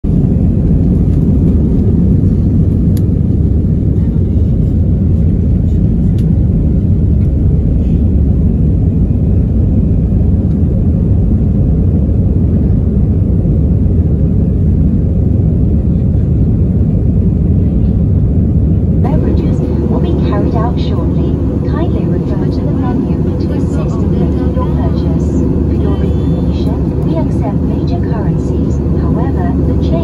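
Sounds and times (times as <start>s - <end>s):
jet engines and airflow rumble: 0.0s - 30.0s.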